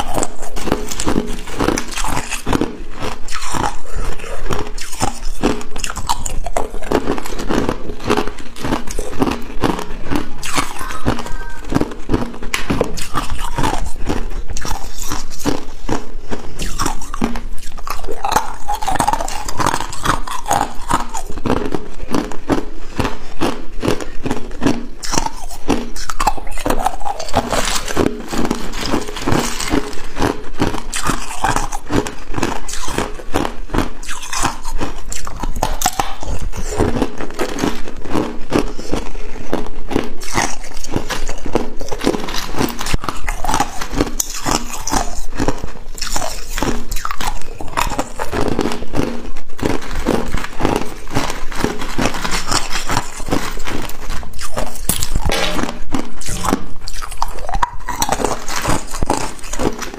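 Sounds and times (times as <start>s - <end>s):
ice cubes crunching: 0.0s - 59.9s.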